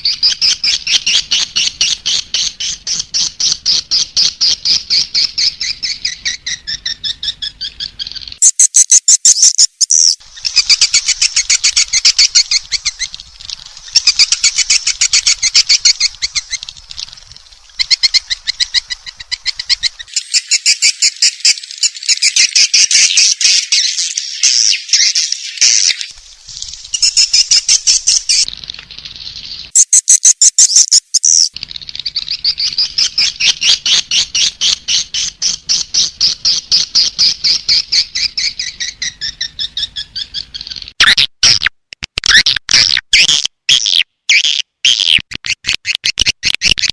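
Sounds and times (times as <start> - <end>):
swiftlets twittering chirps: 0.0 - 13.2, 13.8 - 26.1, 26.8 - 28.5, 29.3 - 41.0.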